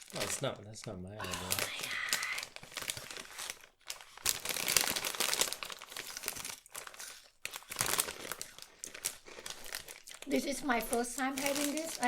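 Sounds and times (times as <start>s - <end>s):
plastic snack bag crinkling: 0.0s - 12.0s.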